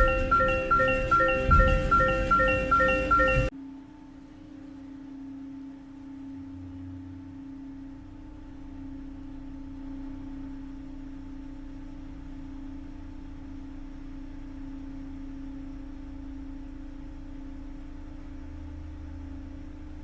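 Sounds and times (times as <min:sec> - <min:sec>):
faint low rumble: 0:00.0 - 0:20.0
low-pitched hum: 0:00.0 - 0:20.0.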